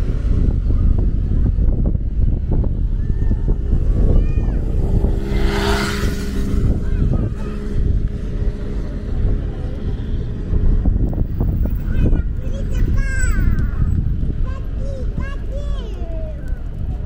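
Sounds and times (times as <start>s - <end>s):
engine hum: 0.0s - 17.0s
low traffic rumble: 0.0s - 17.0s
vehicle passing: 2.0s - 16.8s.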